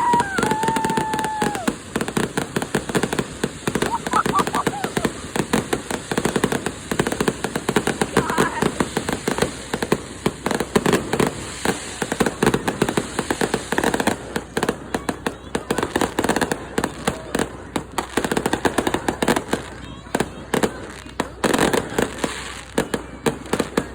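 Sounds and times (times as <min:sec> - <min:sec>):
fireworks banging and crackling: 0:00.0 - 0:23.9.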